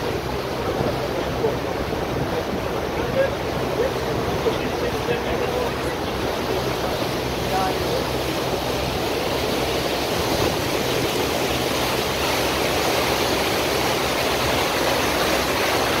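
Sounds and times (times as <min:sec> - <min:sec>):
boat engine droning: 0:00.0 - 0:16.0
water rushing past boat: 0:00.0 - 0:16.0.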